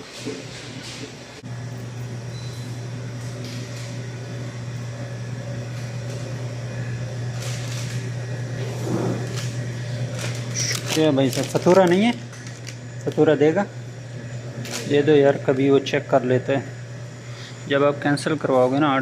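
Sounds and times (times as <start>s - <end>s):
electric motor hum: 0.0s - 19.0s.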